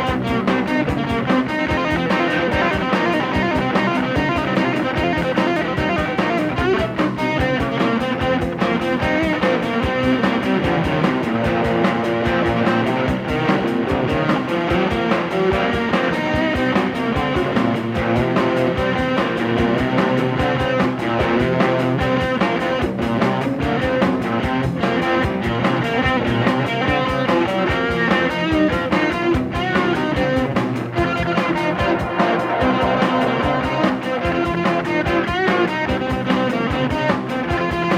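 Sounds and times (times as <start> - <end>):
rock band instrumental with guitars: 0.0 - 37.9.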